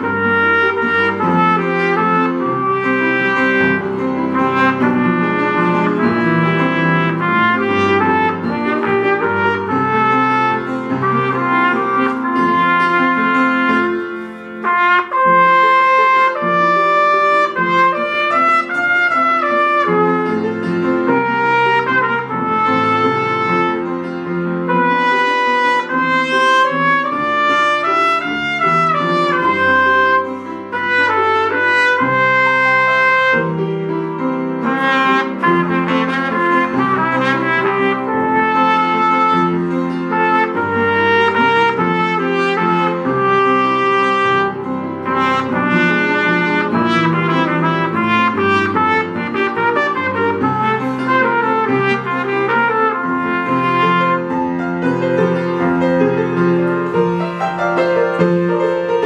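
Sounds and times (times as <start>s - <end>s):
solo trumpet melody: 0.0s - 59.0s
upright piano accompaniment: 0.0s - 59.0s.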